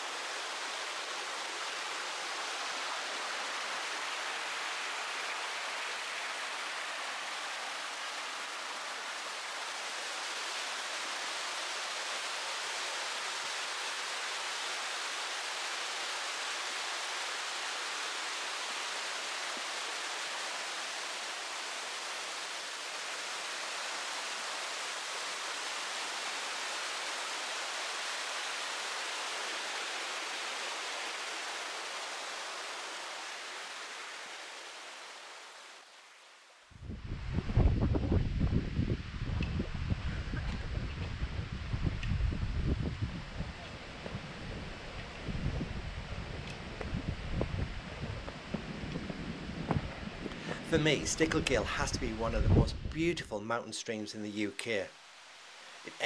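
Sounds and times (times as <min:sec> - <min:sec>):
stream rushing over waterfalls: 0:00.0 - 0:53.5, 0:54.4 - 0:56.0.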